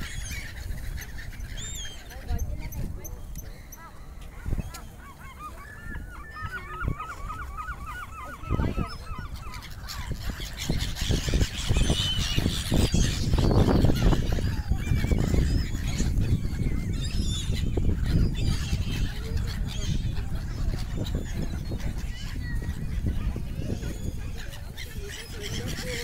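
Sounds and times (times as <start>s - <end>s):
gulls calling: 0.0s - 26.0s.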